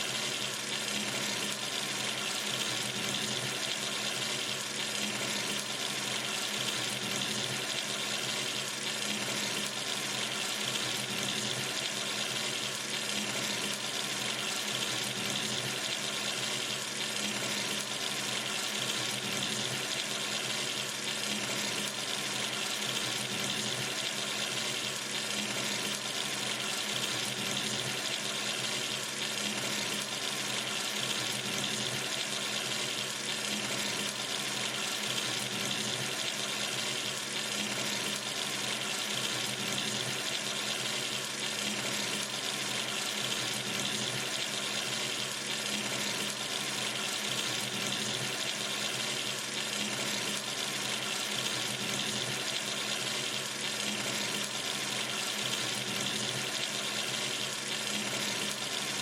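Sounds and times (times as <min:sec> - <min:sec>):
water running from tap into sink: 0:00.0 - 0:59.0.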